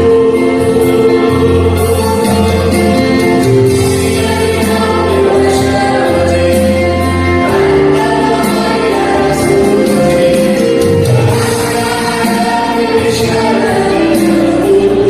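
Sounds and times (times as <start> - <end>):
backing track with bass: 0.0 - 15.0
choir singing a hymn: 0.0 - 15.0
percussion hits: 0.0 - 15.0.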